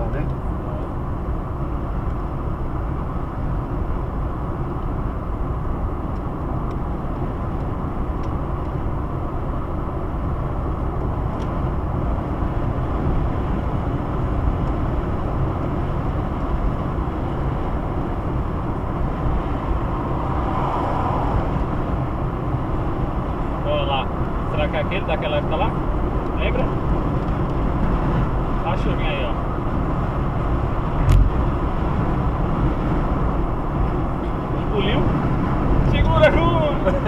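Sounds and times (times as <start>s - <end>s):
road and engine noise in car: 0.0s - 37.0s.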